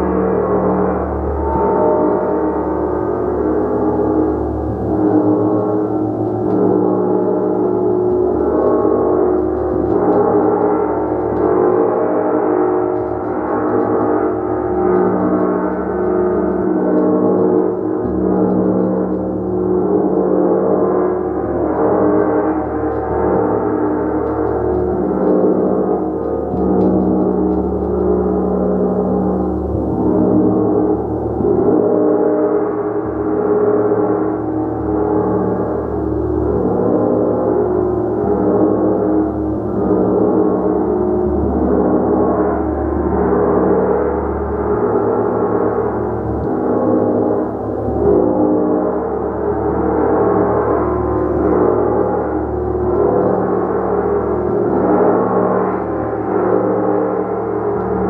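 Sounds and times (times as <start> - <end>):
gong ringing: 0.0 - 58.0.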